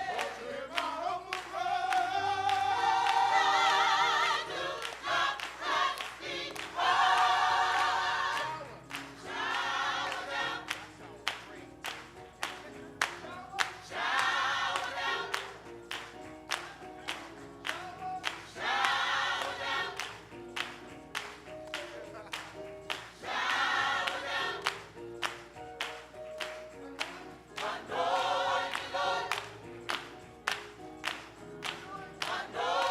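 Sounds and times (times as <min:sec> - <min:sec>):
gospel choir singing: 0:00.0 - 0:32.9
hand claps on the beat: 0:00.0 - 0:32.9.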